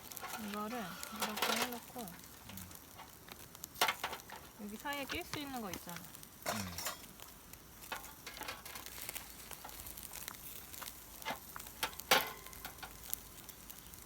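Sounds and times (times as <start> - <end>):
campfire crackles: 0.0 - 14.0
food sizzling on a grill: 0.0 - 14.0.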